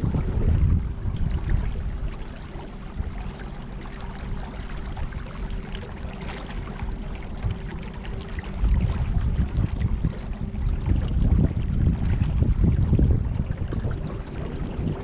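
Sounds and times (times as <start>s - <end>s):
thin steady hum: 0.0s - 15.0s
water rushing and lapping: 0.0s - 15.0s
wind buffeting microphone: 0.0s - 15.0s.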